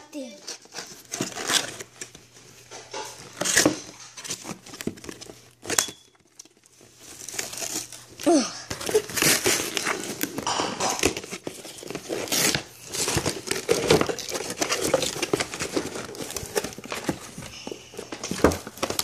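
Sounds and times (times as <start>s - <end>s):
plastic crinkling: 0.2s - 19.0s
cardboard packaging tearing: 0.4s - 19.0s.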